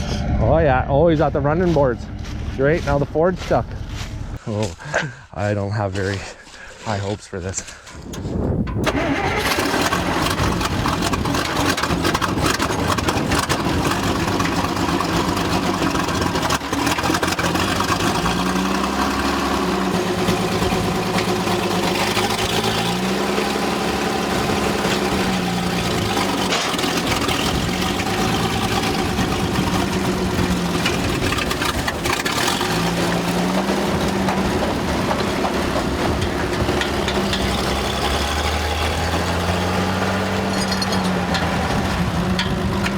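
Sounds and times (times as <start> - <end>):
engine idling and revving: 7.7 - 42.9.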